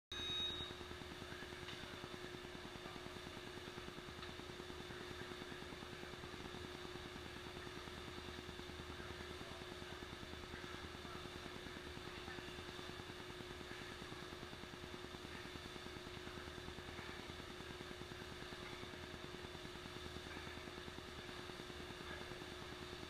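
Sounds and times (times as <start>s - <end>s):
machine hum: 0.1s - 23.0s.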